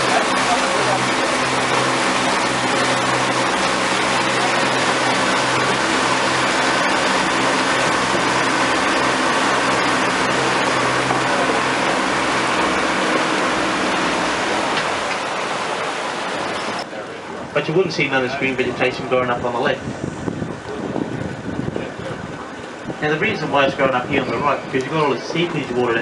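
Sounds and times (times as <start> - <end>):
boat motor humming: 0.0 - 26.0
water rushing along hull: 0.0 - 26.0.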